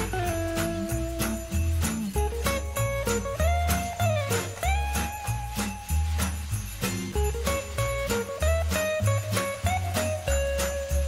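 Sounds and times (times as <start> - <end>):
festive holiday song with sleigh bells: 0.0 - 11.0.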